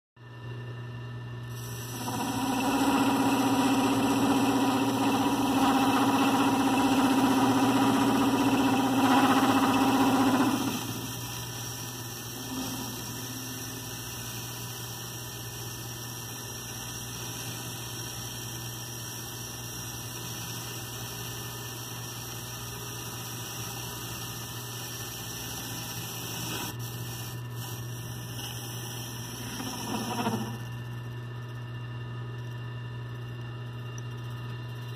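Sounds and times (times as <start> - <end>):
lathe motor hum: 1.5 - 31.6
metal lathe whine: 1.5 - 31.6.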